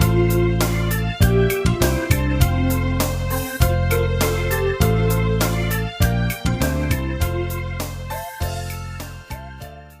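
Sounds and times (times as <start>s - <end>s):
instrumental keyboard music: 0.0s - 10.0s.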